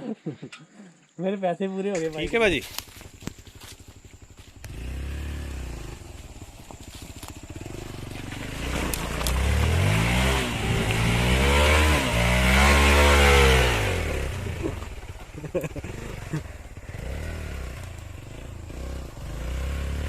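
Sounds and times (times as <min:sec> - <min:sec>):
motorcycle engine revving: 0:02.0 - 0:20.0.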